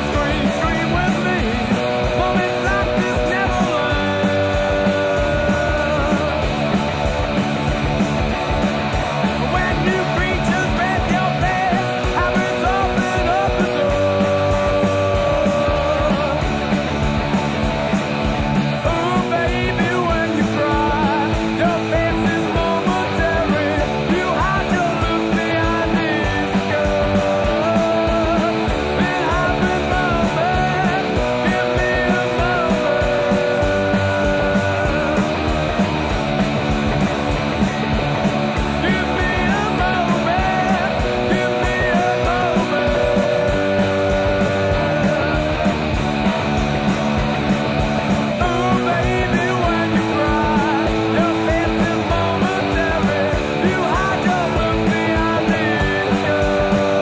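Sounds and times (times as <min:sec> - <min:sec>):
punk rock music: 0:00.0 - 0:57.0.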